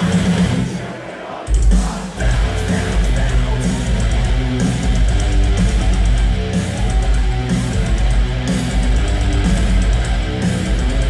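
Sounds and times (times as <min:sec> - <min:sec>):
live metal band playing: 0:00.0 - 0:11.0.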